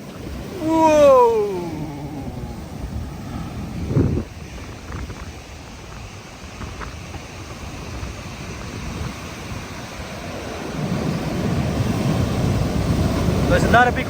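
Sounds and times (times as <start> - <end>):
waves washing up beach: 0.0 - 14.0
wind buffeting microphone: 0.0 - 14.0.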